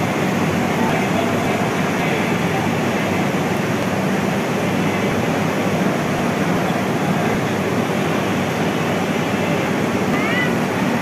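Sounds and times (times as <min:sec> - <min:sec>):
railway platform rushing noise: 0:00.0 - 0:11.0.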